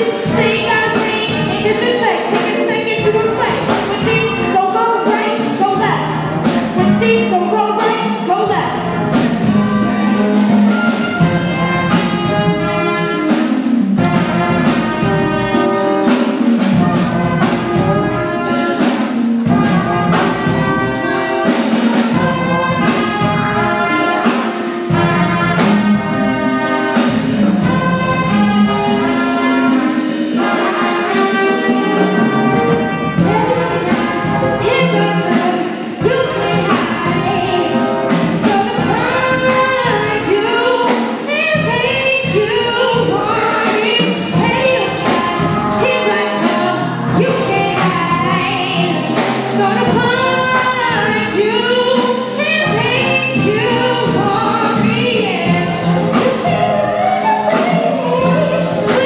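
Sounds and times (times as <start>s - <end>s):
drum kit beat: 0.0s - 59.0s
trumpets and trombone playing: 0.0s - 59.0s.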